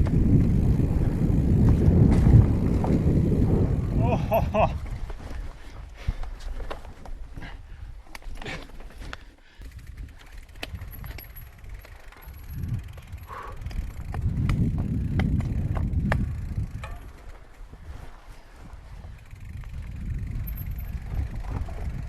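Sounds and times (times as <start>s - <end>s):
bike clicking and rattling: 0.0s - 22.0s
bike tyres rumbling over ground: 0.0s - 22.0s.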